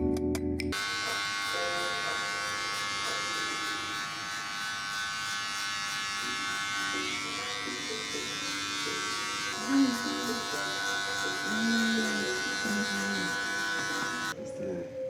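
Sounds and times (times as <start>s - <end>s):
music: 0.0s - 3.9s, 6.2s - 15.0s
small motor buzzing: 0.7s - 14.4s.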